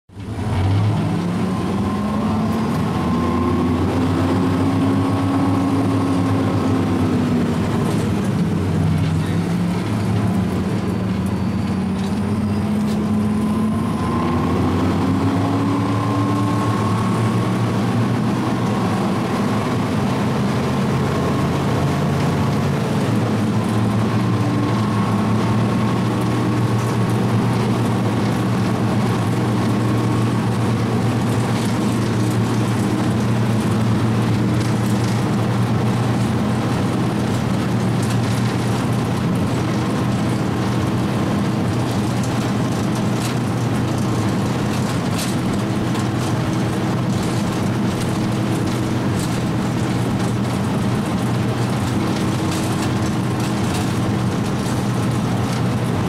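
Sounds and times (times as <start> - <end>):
vehicle engine running: 0.1 - 56.0.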